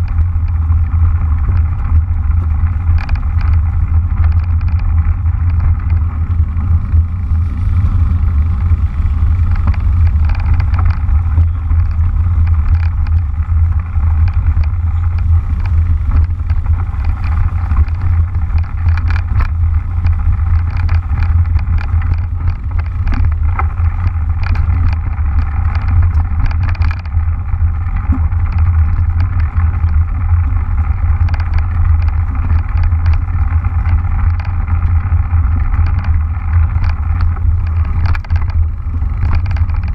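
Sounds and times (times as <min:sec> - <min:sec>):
bike clicks and rattles: 0:00.0 - 0:39.9
tyres rolling on dirt trail: 0:00.0 - 0:39.9
wind buffeting: 0:00.0 - 0:39.9.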